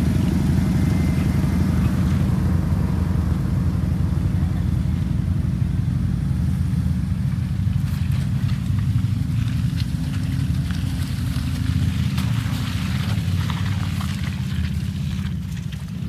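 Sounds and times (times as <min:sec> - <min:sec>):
pickup truck driving: 0:00.0 - 0:16.0.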